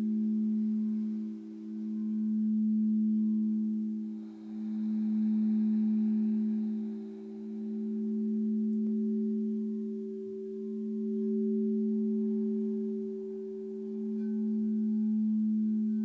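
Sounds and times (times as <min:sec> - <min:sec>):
singing bowl humming: 0:00.0 - 0:16.0.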